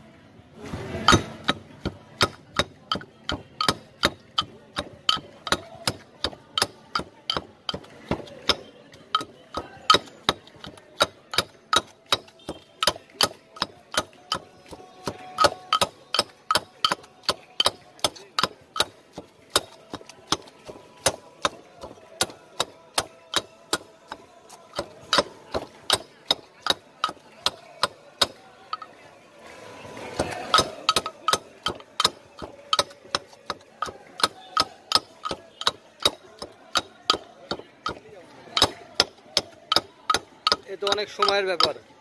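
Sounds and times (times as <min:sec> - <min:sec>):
pestle pounding in stone mortar: 0:01.0 - 0:28.9, 0:30.1 - 0:41.8.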